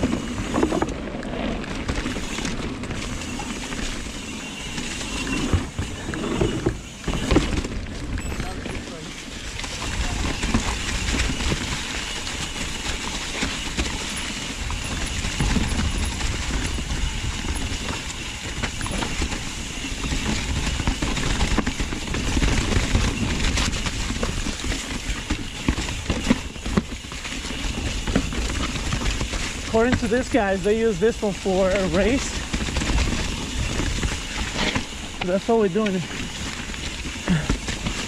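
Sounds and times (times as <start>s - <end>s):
bike rattling over rocks: 0.0s - 38.0s
bike tyres rolling: 0.0s - 38.0s.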